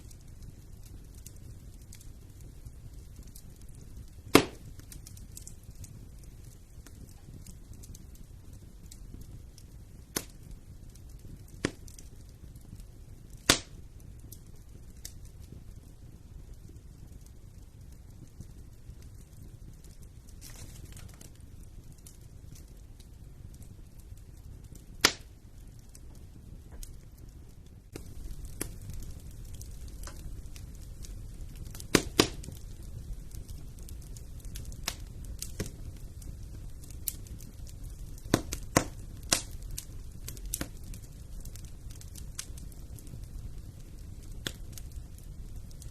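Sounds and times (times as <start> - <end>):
sharp pops from burning wood: 0.0 - 45.9
wood fire crackling: 0.0 - 45.9.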